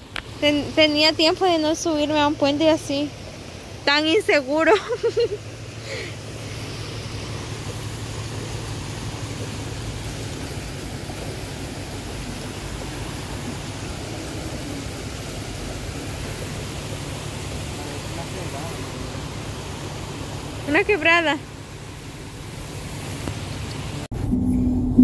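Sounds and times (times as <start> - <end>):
creek rushing over rocks: 0.0 - 24.1.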